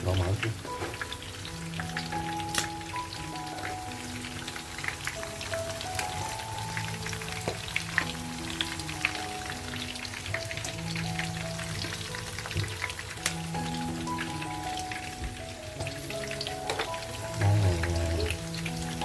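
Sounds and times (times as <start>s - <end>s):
background music with held notes: 0.0s - 19.0s
sausage sizzling in lard: 0.0s - 19.0s.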